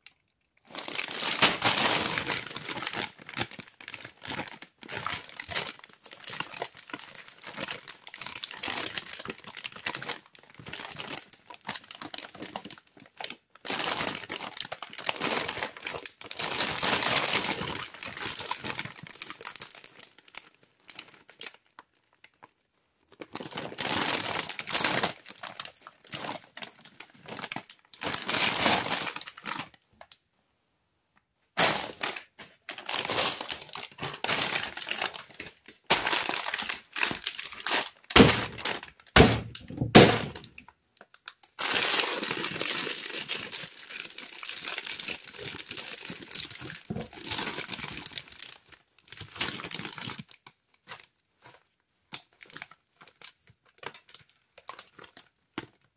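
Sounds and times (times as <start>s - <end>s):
plastic bags crinkling: 0.0s - 30.2s, 31.5s - 55.9s.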